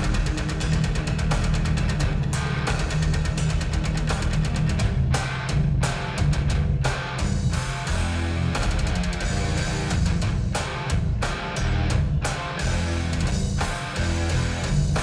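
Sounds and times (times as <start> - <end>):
rock music over loudspeakers: 0.0 - 15.0.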